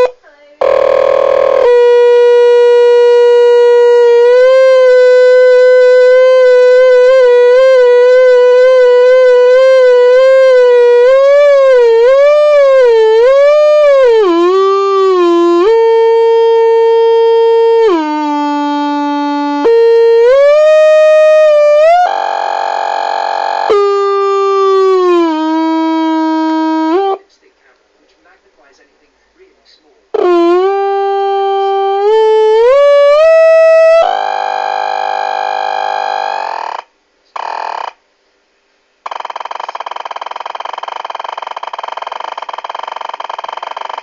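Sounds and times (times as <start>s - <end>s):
buzzy pitched tone: 0.0s - 27.5s, 30.1s - 38.0s, 39.0s - 44.0s
rough noise: 0.0s - 38.0s, 39.0s - 44.0s.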